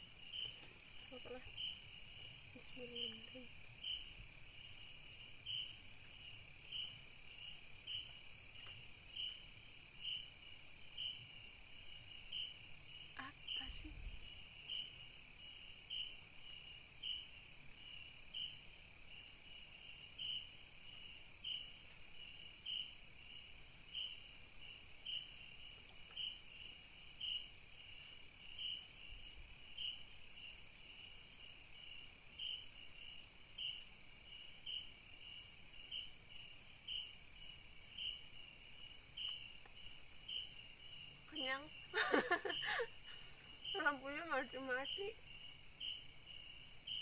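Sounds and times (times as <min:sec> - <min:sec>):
insect chirping: 0:00.0 - 0:47.0
insect chorus hum: 0:00.0 - 0:47.0.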